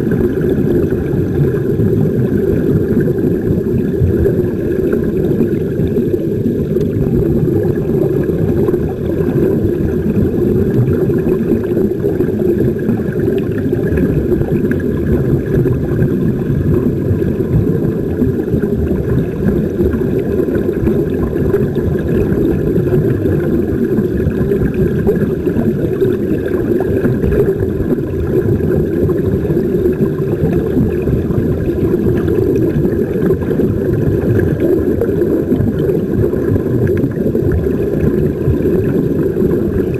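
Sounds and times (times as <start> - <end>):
underwater rushing and bubbling: 0.0 - 39.9.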